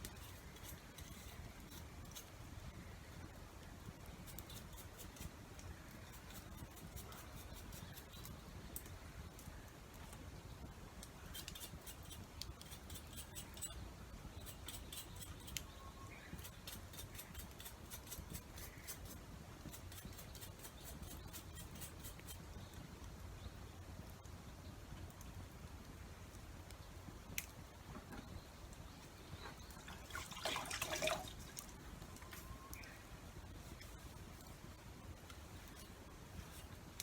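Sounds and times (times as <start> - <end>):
wood fire crackling: 0.0 - 28.0, 31.4 - 37.0.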